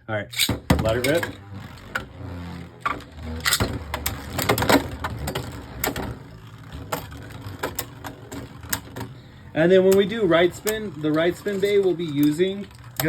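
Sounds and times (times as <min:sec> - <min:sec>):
spinning tops clicking and clacking: 0:00.3 - 0:02.1, 0:03.0 - 0:13.0.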